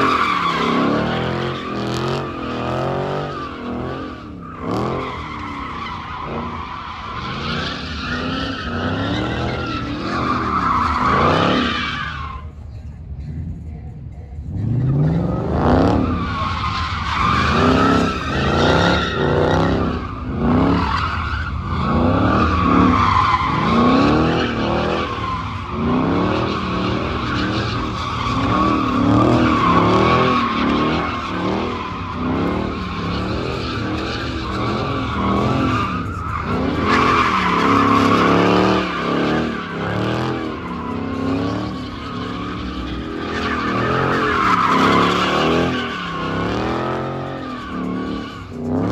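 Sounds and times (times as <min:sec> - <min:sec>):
car engine revving: 0:00.0 - 0:12.6, 0:14.4 - 0:48.9
tires squealing: 0:00.0 - 0:13.2, 0:14.5 - 0:48.9.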